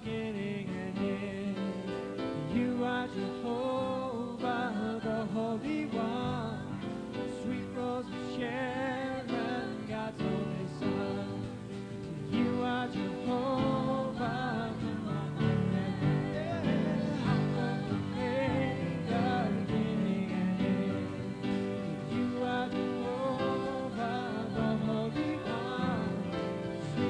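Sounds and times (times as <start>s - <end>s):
instrumental accompaniment: 0.0s - 27.0s
people singing with vibrato: 0.0s - 27.0s.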